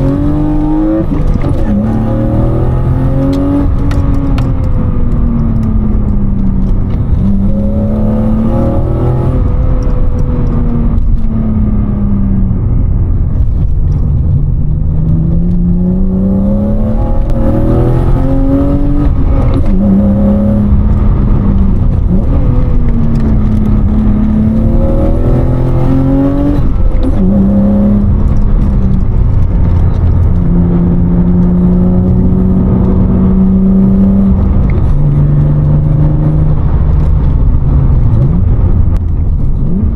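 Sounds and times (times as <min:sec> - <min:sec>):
car engine heard from inside cabin: 0:00.0 - 0:39.9.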